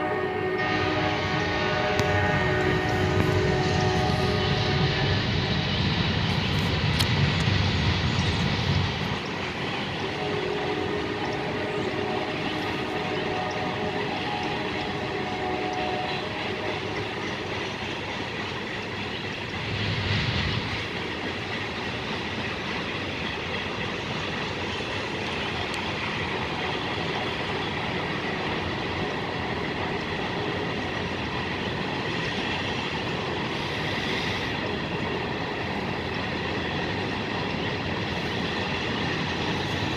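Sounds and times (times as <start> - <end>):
train wheels on track: 0.0 - 39.9.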